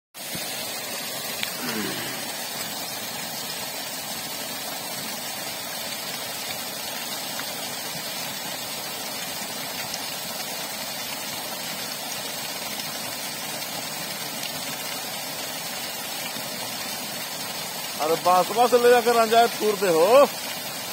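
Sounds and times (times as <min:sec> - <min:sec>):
water gushing from a pipe: 0:00.2 - 0:20.9.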